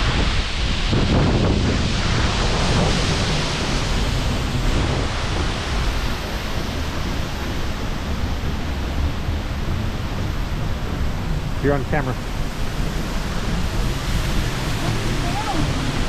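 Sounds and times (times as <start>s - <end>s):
waterfall rushing: 0.0s - 16.0s
wind buffeting microphone: 0.0s - 16.0s.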